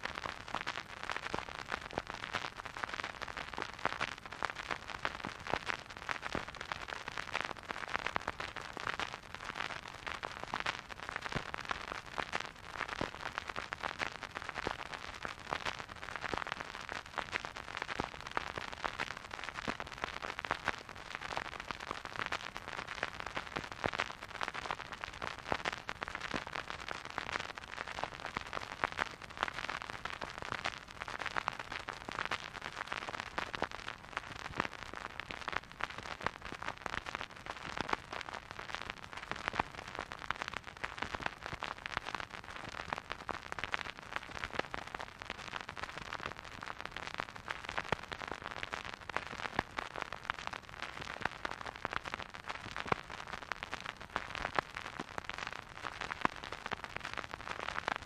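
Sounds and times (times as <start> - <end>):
vinyl record crackle and hiss: 0.0 - 58.0.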